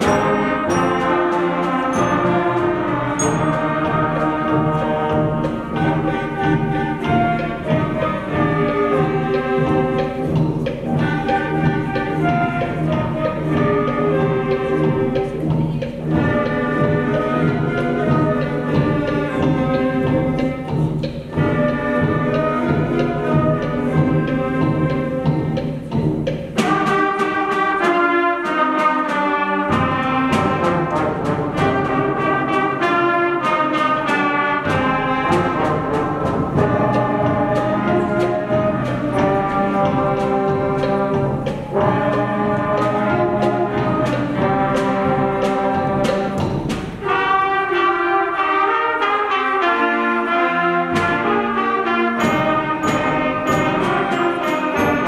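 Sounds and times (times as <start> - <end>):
trumpets and brass playing tune: 0.0 - 25.8, 26.6 - 55.0
sharp percussion strokes: 0.0 - 49.3, 50.7 - 55.0
concert band playing: 0.0 - 55.0.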